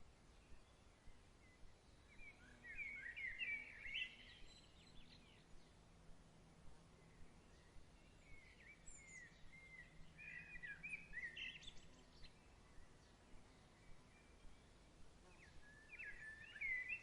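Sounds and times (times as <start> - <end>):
faint birdsong: 0.0 - 17.0
soft outdoor background: 0.0 - 17.0.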